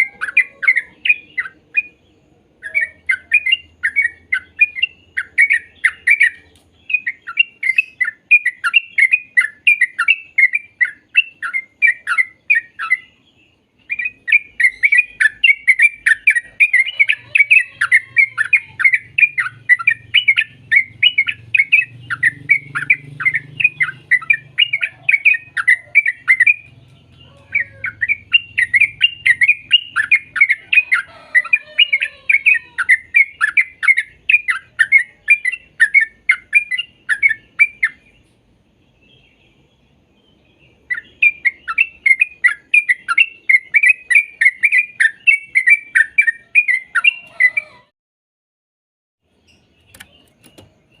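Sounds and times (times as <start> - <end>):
bulbul chirping song: 0.0 - 47.9, 49.2 - 51.0.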